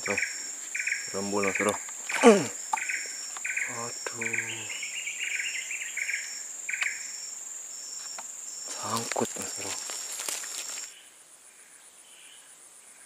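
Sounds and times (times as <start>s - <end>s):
high-pitched insect whine: 0.0s - 13.0s
insects chirping: 0.0s - 13.0s.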